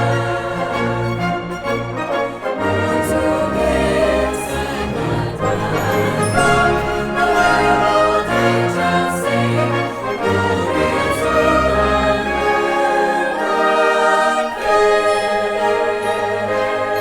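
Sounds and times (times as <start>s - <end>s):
orchestra playing classical music: 0.0s - 17.0s.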